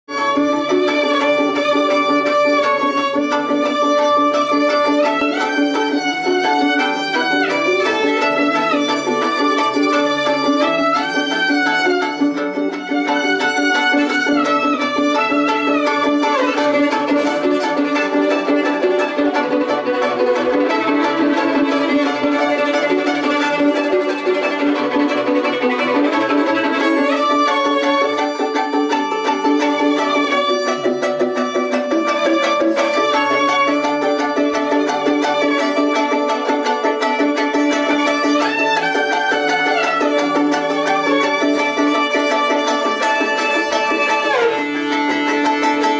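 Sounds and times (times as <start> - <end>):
violin bowing melody: 0.0 - 45.9
violin plucked and strummed: 0.0 - 45.9.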